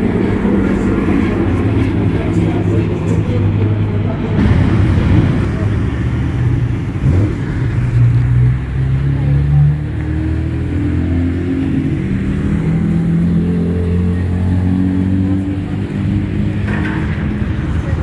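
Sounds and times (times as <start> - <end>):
race car engines revving past: 0.0 - 18.0.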